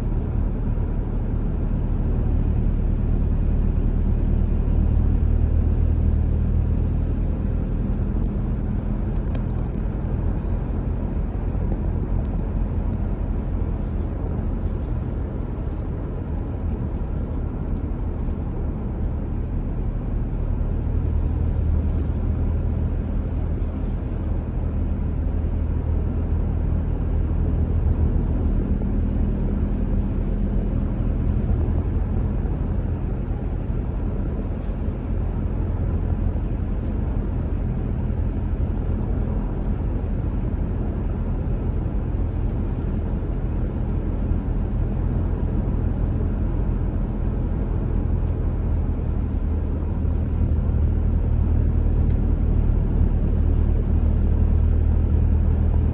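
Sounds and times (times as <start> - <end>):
car engine hum: 0.0 - 55.9
tyre and road noise: 0.0 - 55.9.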